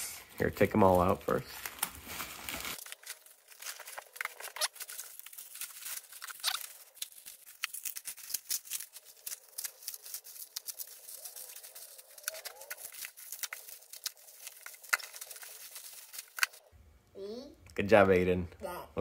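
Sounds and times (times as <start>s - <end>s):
plastic bags crinkling: 0.4s - 16.6s.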